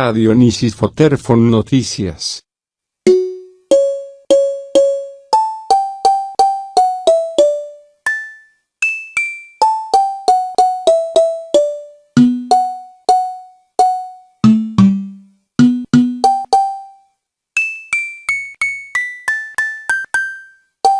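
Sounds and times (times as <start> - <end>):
keyboard melody: 3.1 - 20.9.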